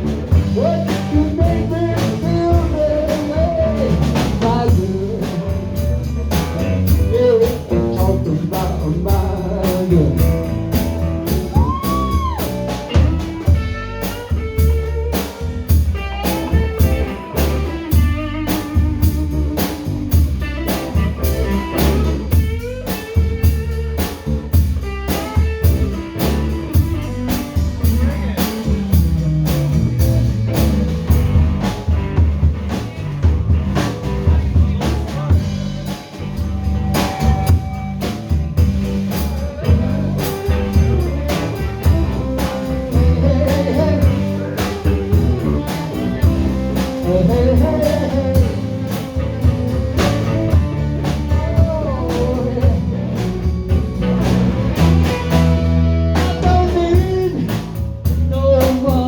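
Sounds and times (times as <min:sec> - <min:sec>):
bass: 0:00.0 - 0:59.0
drum kit steady beat: 0:00.0 - 0:59.0
guitar melody: 0:00.0 - 0:59.0.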